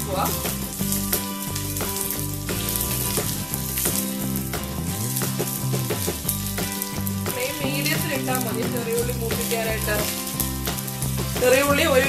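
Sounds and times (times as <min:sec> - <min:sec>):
crackles and spatters: 0:00.0 - 0:12.0
low background music: 0:00.0 - 0:12.0
oil sizzling in a pan: 0:00.0 - 0:12.0.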